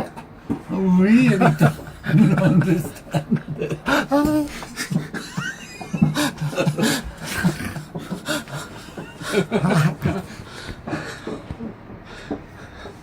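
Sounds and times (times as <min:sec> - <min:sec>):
person laughing: 0:01.1 - 0:11.7.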